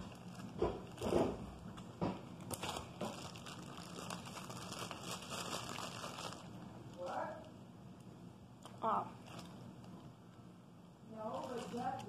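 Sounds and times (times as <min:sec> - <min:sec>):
plastic bag crinkling: 0:00.0 - 0:07.6, 0:08.6 - 0:10.1, 0:11.1 - 0:12.0.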